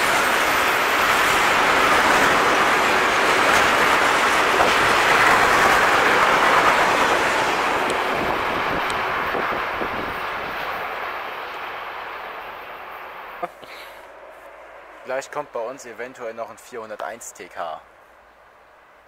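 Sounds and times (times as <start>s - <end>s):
train wheels rolling on rails: 0.0s - 16.2s.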